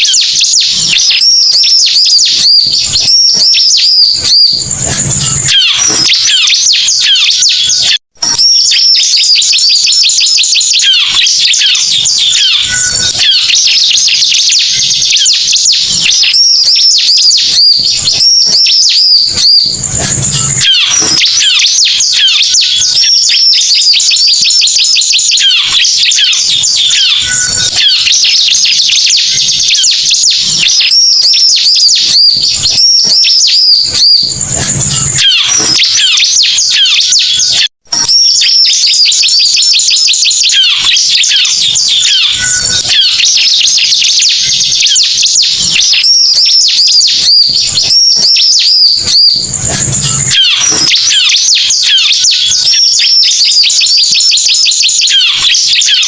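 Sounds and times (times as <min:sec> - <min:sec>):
bird chirps and trills: 0:00.0 - 0:56.0.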